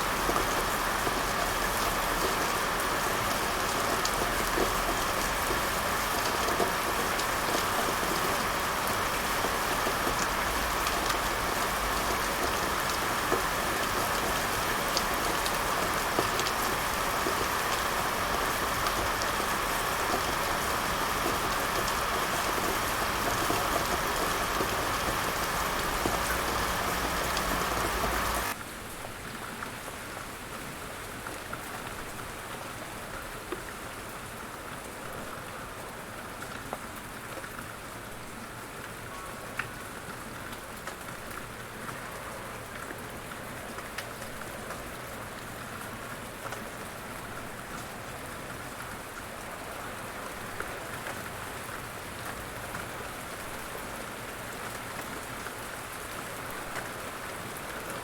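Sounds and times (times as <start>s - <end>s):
rain: 0.0s - 58.0s.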